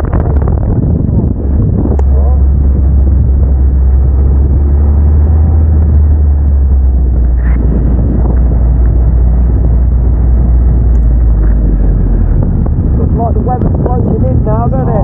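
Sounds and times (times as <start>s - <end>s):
car engine droning: 0.0s - 15.0s
road noise: 0.0s - 15.0s
wind noise: 0.0s - 15.0s.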